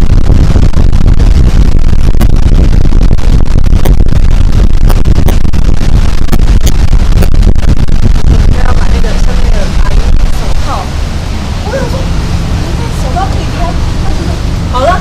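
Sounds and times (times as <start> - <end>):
boat low rumble: 0.0 - 15.0.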